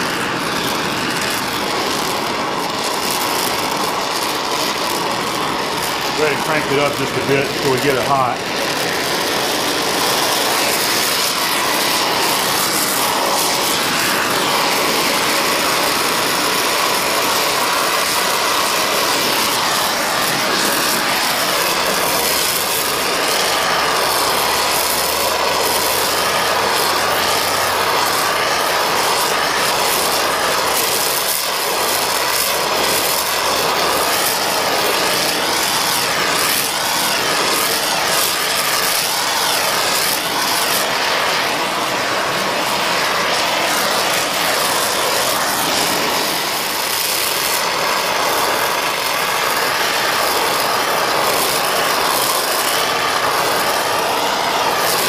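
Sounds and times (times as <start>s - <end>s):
torch flame hissing: 0.0s - 55.0s.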